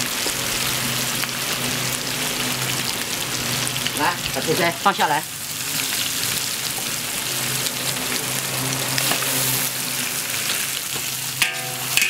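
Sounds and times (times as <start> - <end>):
liver sizzling in hot oil: 0.0 - 12.0.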